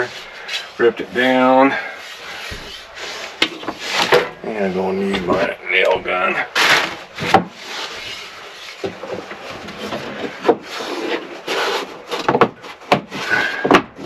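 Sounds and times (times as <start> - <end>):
board scraping against wood: 0.0 - 5.6, 6.4 - 14.0.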